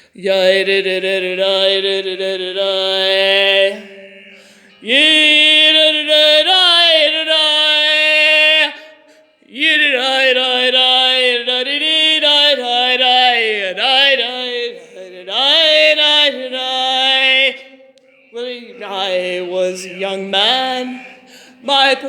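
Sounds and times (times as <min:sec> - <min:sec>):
person singing in tunnel echo: 0:00.0 - 0:22.0.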